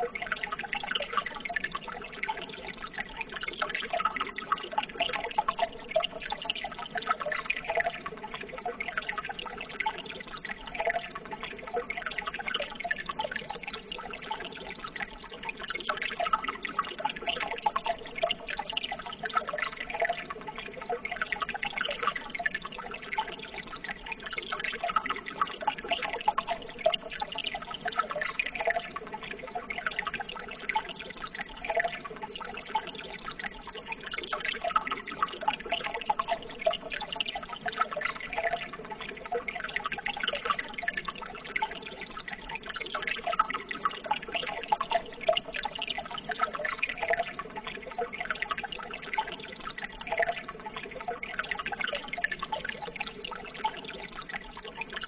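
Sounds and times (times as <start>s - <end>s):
water trickling and bubbling: 0.0s - 55.0s.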